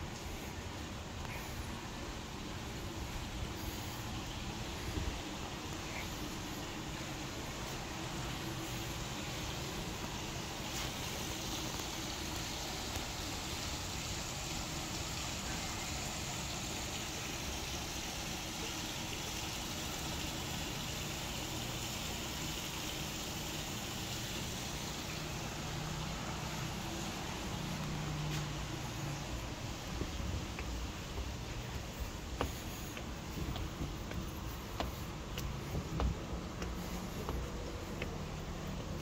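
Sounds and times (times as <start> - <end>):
even hiss: 0.0 - 39.0.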